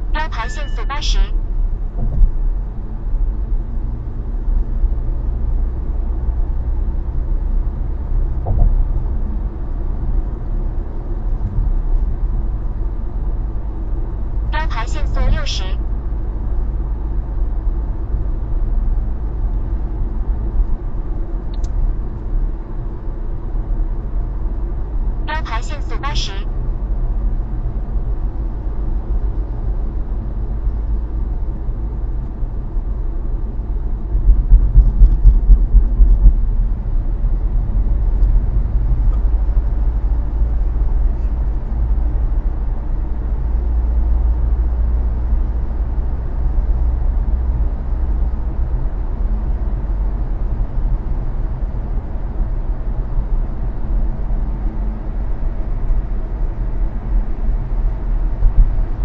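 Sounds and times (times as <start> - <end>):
car road and engine noise: 0.0 - 25.3, 26.4 - 59.0.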